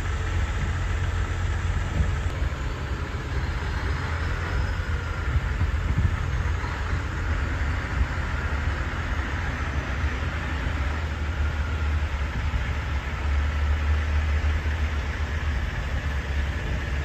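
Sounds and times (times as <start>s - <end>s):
road and wind noise hiss: 0.0s - 17.0s
vehicle low rumble: 0.0s - 17.0s.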